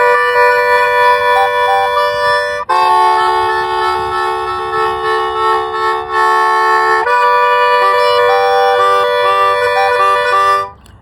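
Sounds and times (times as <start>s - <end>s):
accordion playing chords: 0.0s - 10.9s.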